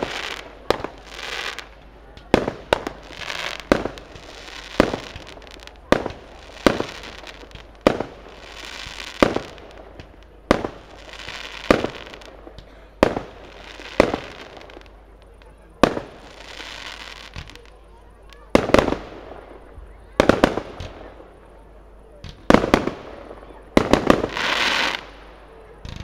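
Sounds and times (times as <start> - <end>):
fireworks hissing: 0.0 - 21.4, 22.2 - 26.0
fireworks bursting: 0.0 - 26.0.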